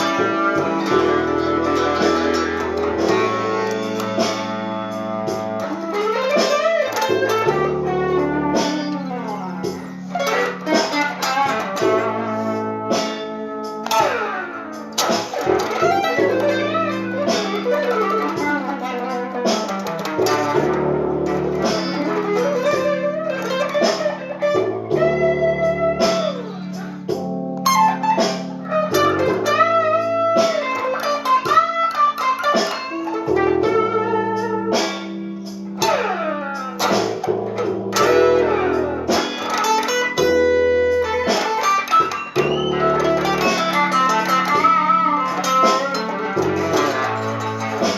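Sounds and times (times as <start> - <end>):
blues guitar lead notes: 0.0 - 47.9.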